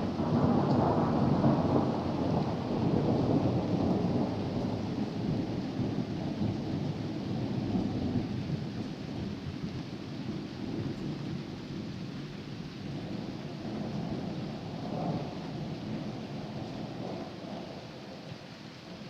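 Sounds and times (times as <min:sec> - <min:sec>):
rolling thunder: 0:00.0 - 0:12.0, 0:12.9 - 0:18.3
steady rain: 0:00.0 - 0:19.0.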